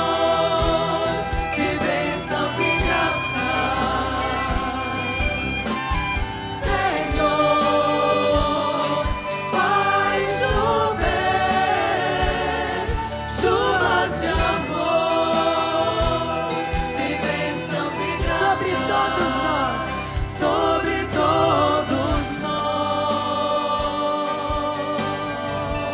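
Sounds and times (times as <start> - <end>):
group singing a hymn: 0.0 - 25.9.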